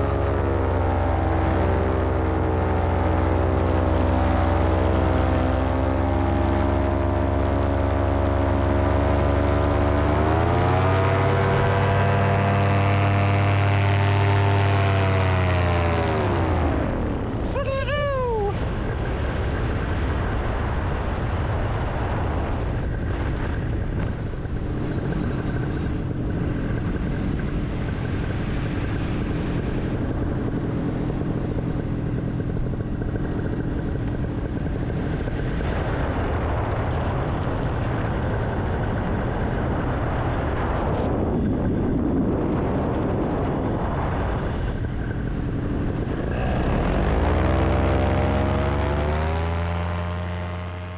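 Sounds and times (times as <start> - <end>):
paramotor engine and propeller: 0.0 - 50.9
wind rushing over microphone: 0.0 - 50.9.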